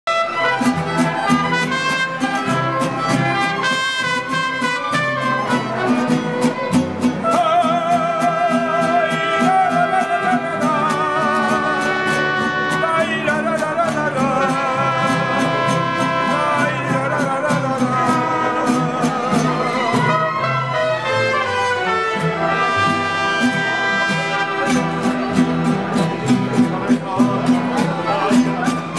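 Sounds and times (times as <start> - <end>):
trumpet: 0.0 - 28.9
strummed guitars: 0.1 - 28.9.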